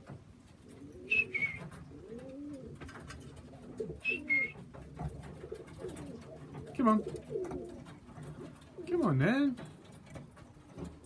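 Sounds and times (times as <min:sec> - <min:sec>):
pigeons cooing: 0:00.0 - 0:09.1.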